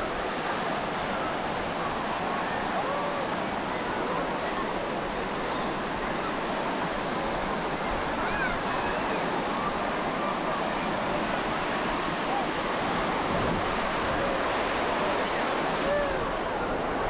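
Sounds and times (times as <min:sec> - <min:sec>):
ocean surf washing on beach: 0:00.0 - 0:17.0.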